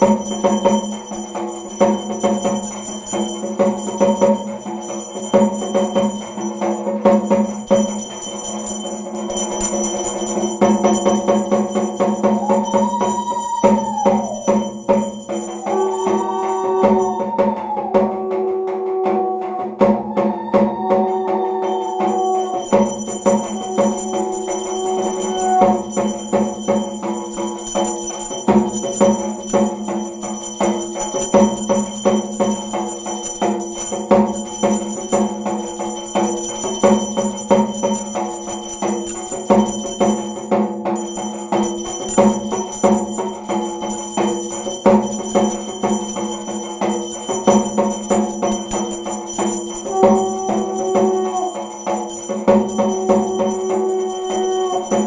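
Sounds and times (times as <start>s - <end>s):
bells ringing: 0.0s - 18.3s, 20.8s - 55.0s
fast percussion beats: 0.0s - 55.0s
held tone: 0.0s - 55.0s.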